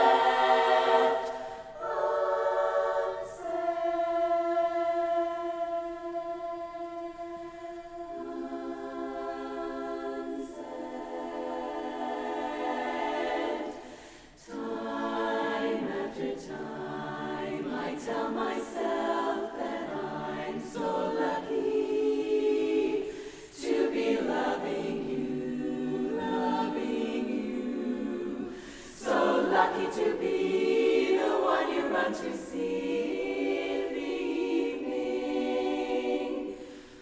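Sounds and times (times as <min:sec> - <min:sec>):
a cappella chorus singing harmony: 0:00.0 - 0:37.0.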